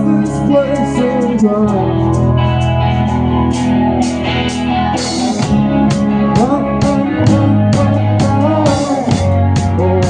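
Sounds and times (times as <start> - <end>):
live band playing: 0.0 - 10.0.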